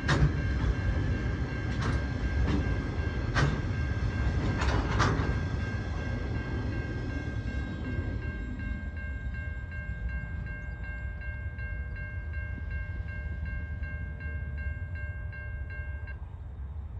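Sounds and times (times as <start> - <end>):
crossing warning bell ringing: 0.0 - 16.5
freight train rumbling: 0.0 - 16.9.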